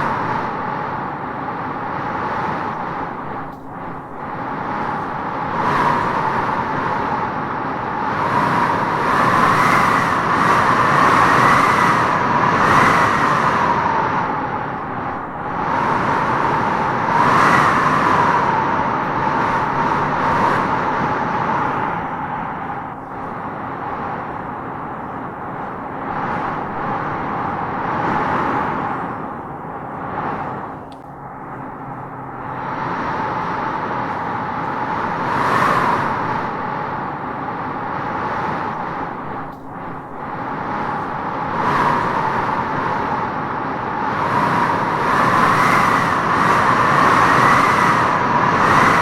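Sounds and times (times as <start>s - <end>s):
wind howling through trees: 0.0s - 49.0s.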